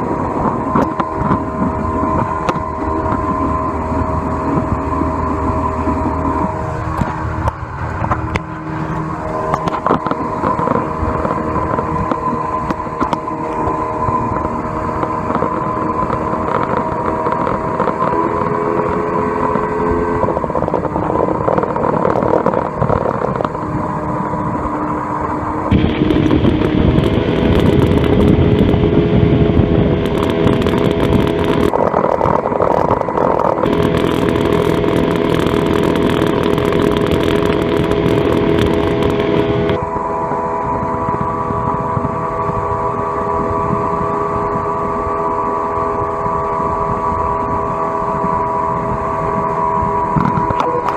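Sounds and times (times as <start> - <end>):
outboard motor running: 0.0 - 50.9
rush of wind and water: 0.0 - 50.9.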